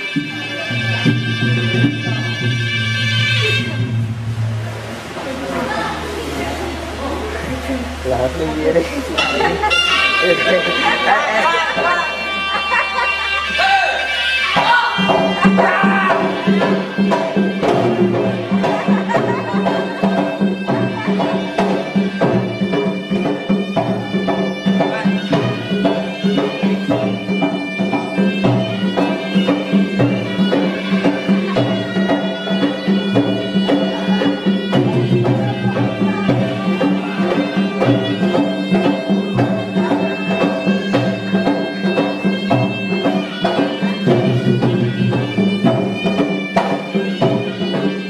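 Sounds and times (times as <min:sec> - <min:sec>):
reedy pipe melody: 0:00.0 - 0:48.0
steady drum beat: 0:00.0 - 0:48.0.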